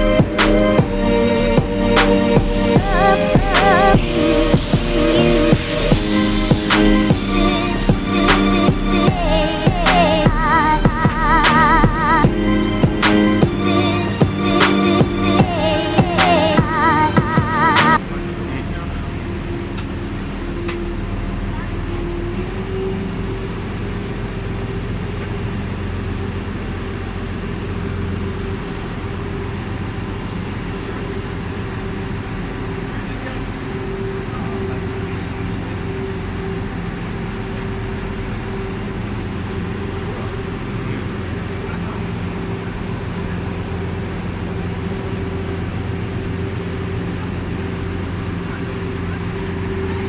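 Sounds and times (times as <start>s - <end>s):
boat engine running: 0.0s - 50.0s.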